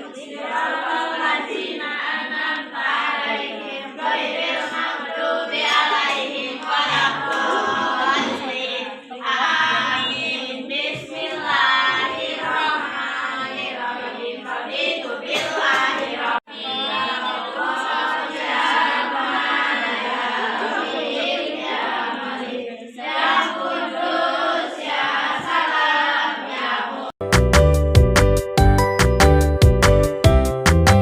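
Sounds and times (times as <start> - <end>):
choir singing: 0.0 - 27.2.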